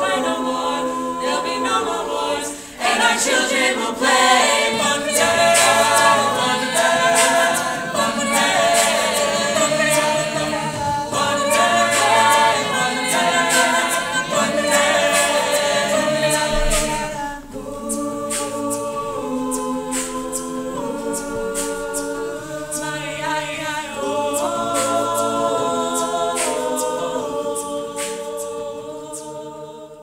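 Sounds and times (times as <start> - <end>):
a cappella group singing: 0.0 - 30.0
vocal percussion beat: 0.0 - 30.0.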